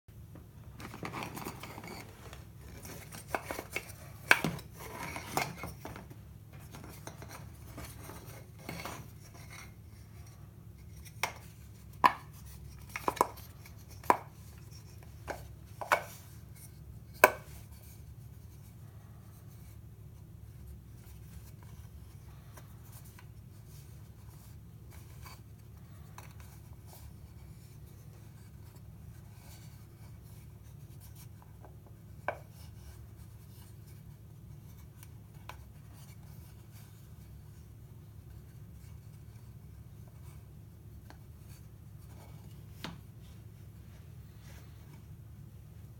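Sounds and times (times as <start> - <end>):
rubbing and handling of globe: 0.6 - 45.9.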